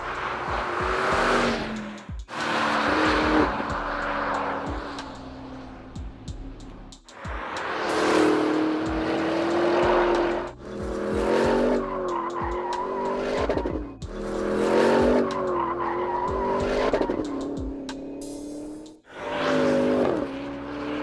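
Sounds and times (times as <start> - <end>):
car engine running hard: 0.0 - 21.0
tires squealing: 0.0 - 21.0.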